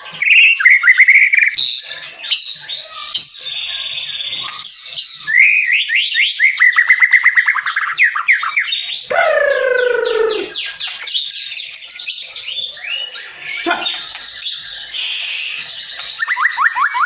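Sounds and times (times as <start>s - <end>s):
bird singing whistled notes: 0.1s - 17.0s.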